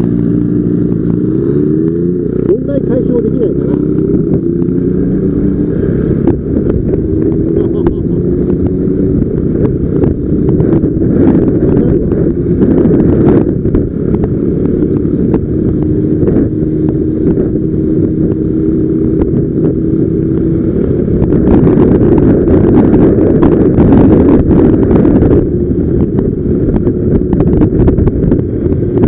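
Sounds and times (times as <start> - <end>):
motorcycle engine humming: 0.0 - 29.0
wind rumble on microphone: 0.0 - 29.0.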